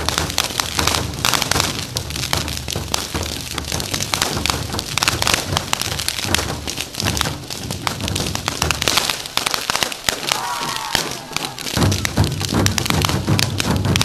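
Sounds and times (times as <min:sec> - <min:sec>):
fireworks cracking and popping: 0:00.0 - 0:14.0.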